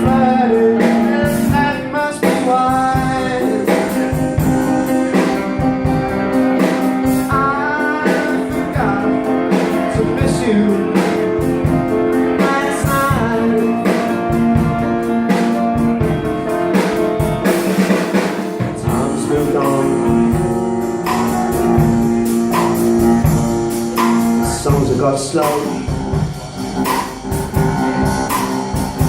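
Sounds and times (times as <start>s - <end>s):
guitar strumming: 0.0s - 29.0s.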